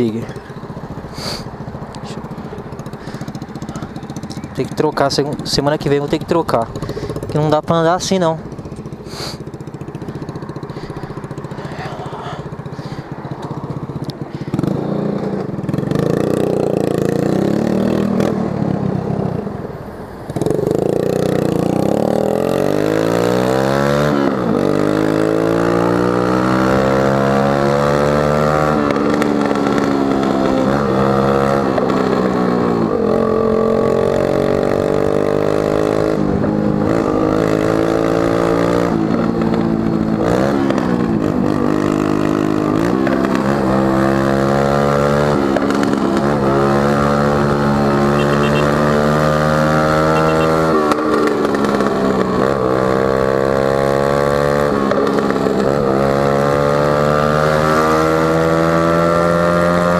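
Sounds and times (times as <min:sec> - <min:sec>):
scooter engine accelerating: 0:00.0 - 0:59.9.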